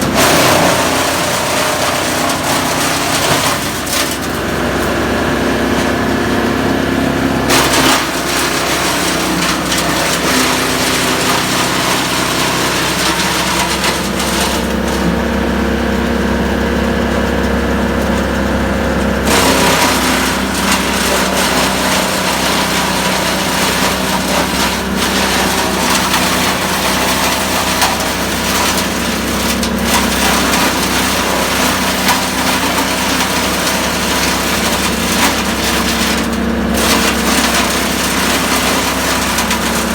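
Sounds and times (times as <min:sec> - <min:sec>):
chainsaw cutting wood: 0:00.0 - 0:06.0, 0:07.3 - 0:15.2, 0:19.2 - 0:39.9.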